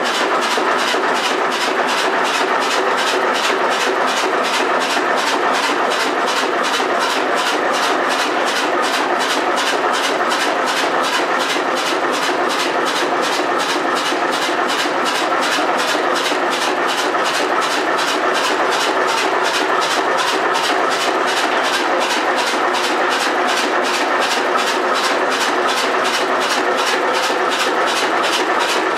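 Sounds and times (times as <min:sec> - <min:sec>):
engine running with regular beat: 0:00.0 - 0:28.9.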